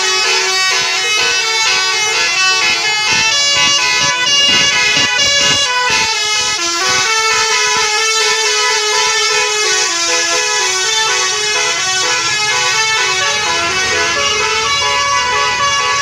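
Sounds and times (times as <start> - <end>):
multi-tone bus horn playing a tune: 0.0 - 16.0.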